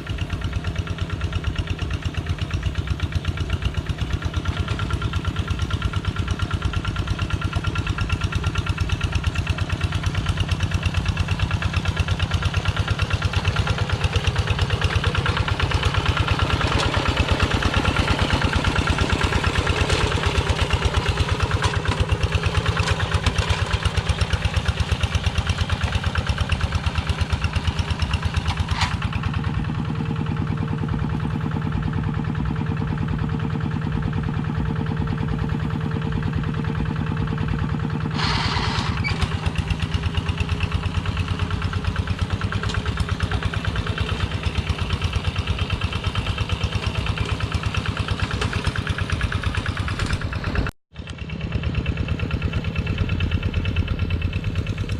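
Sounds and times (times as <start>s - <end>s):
tractor engine chugging: 0.0s - 54.9s.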